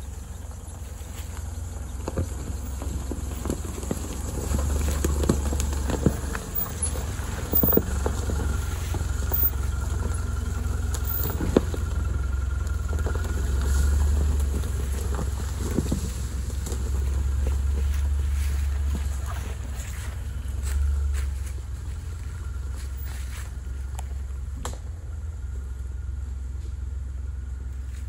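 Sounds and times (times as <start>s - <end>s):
engine and drivetrain rumble: 0.0s - 28.0s.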